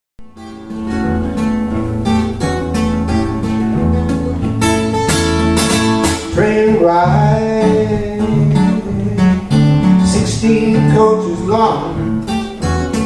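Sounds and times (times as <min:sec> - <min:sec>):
acoustic guitar playing: 0:00.2 - 0:13.0.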